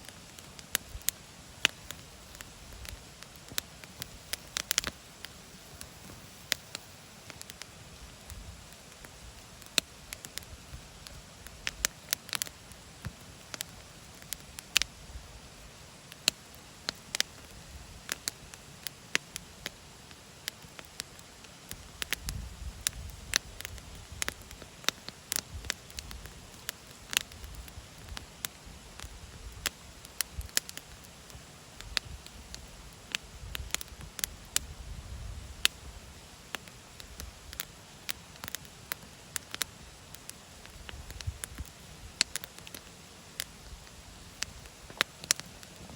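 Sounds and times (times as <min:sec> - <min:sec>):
faint steady hiss: 0:00.0 - 0:45.9
wood fire crackling: 0:00.0 - 0:45.9.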